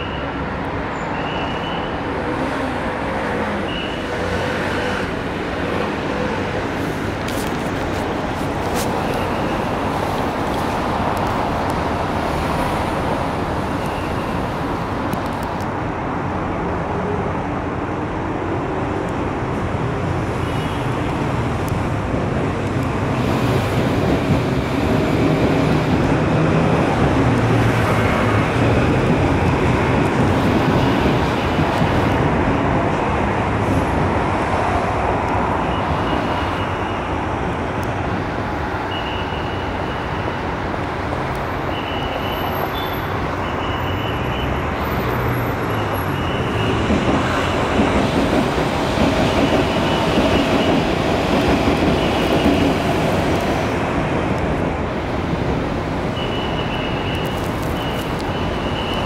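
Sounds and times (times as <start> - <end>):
rumble of passing vehicles: 0.0 - 59.0.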